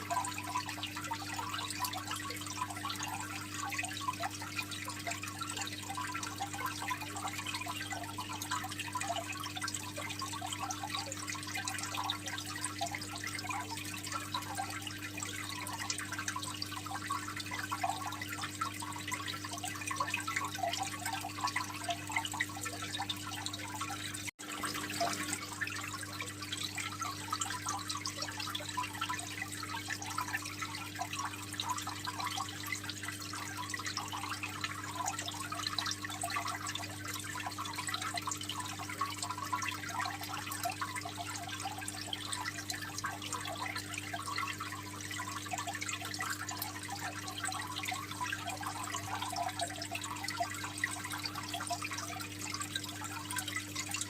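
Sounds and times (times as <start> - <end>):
aquarium water trickling: 0.0 - 54.0.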